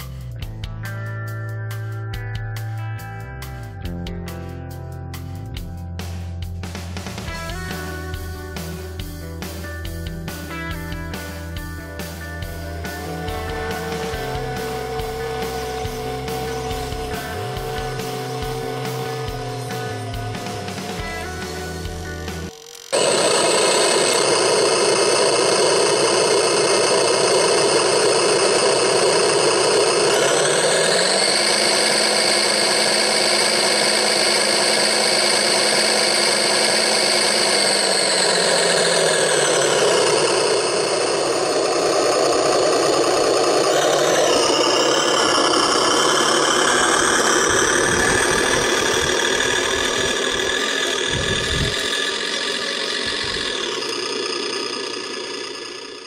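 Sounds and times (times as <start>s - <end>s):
tractor engine sound simulator: 0.0s - 56.0s.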